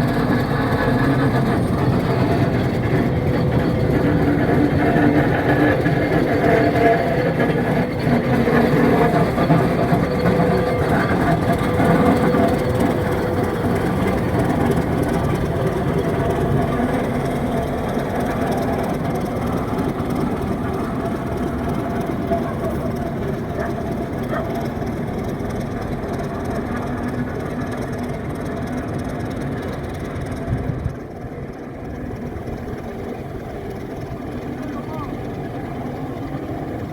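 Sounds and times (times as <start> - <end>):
locomotive engine drone: 0.0 - 36.9
rolling stock rattling on track: 0.0 - 36.9.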